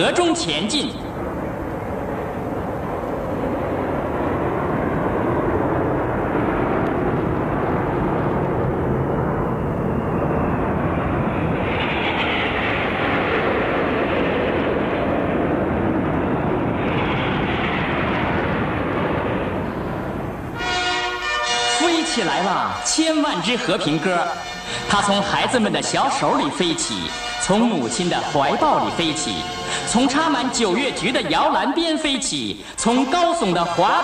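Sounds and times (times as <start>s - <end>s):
jet aircraft flying over: 0.0s - 34.0s.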